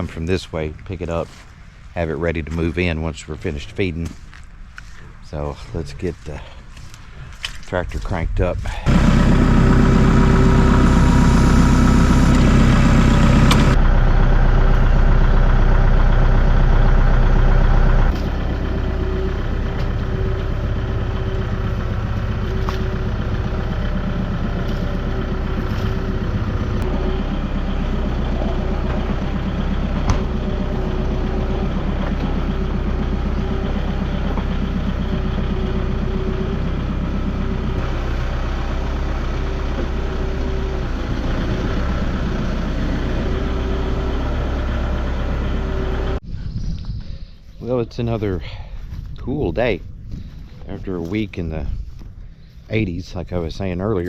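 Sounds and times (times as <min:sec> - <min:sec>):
tractor engine running: 0:00.0 - 0:46.2, 0:47.5 - 0:54.0.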